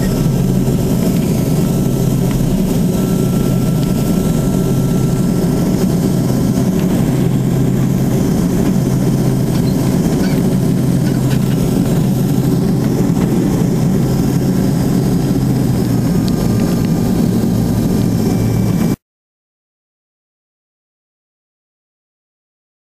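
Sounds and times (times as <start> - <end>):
propeller engines droning: 0.0 - 19.0.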